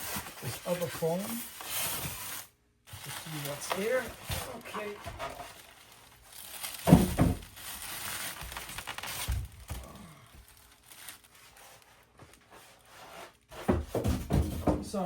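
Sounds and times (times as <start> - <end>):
foam packaging rustling: 0.0 - 14.6.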